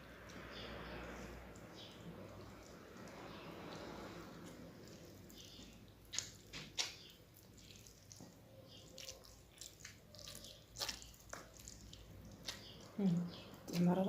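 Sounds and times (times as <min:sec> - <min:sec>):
wet squishes of stuffing pressed: 0:00.2 - 0:14.0.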